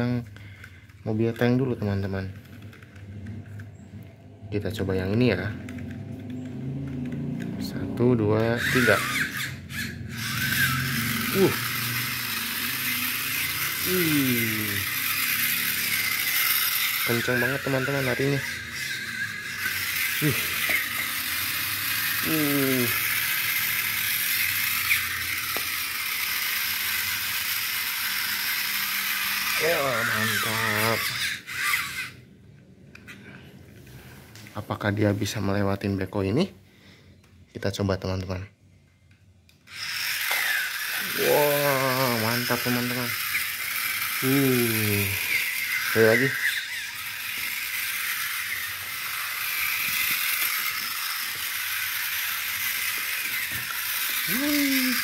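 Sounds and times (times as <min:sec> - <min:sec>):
toy motor grinding whir: 0:00.0 - 0:34.0, 0:39.5 - 0:55.0.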